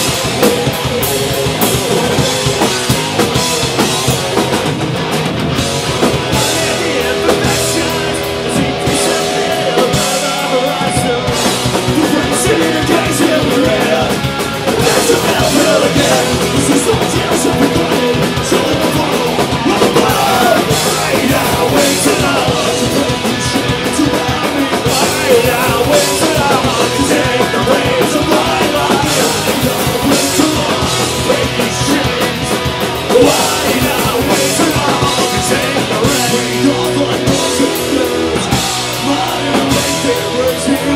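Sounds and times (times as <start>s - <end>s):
bass guitar: 0.0s - 40.9s
drum kit: 0.0s - 40.9s
electric guitars: 0.0s - 40.9s
person singing: 6.0s - 40.9s.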